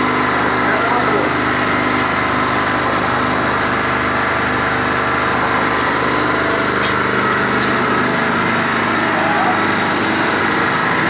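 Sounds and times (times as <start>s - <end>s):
concrete mixer drum turning: 0.0s - 11.0s
petrol generator running: 0.0s - 11.0s.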